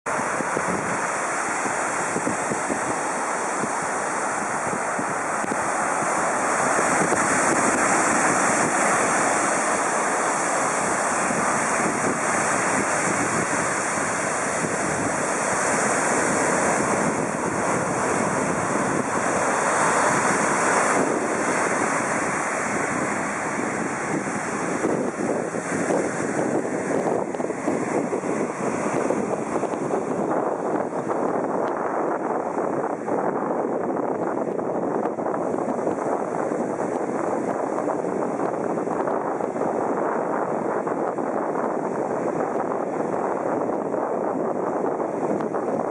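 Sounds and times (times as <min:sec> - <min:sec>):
waves breaking on a beach: 0:00.0 - 0:45.9.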